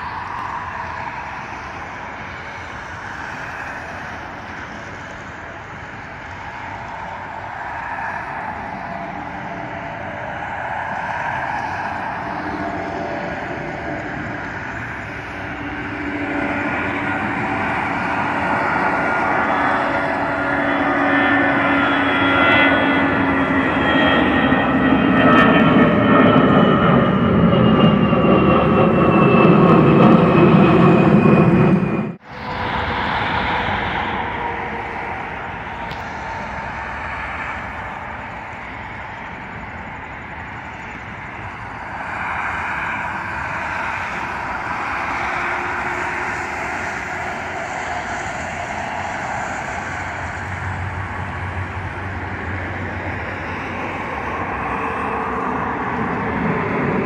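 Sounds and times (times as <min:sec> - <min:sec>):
distant jet roar: 0:00.0 - 0:57.0
jet engine roar with whine: 0:00.0 - 0:57.0.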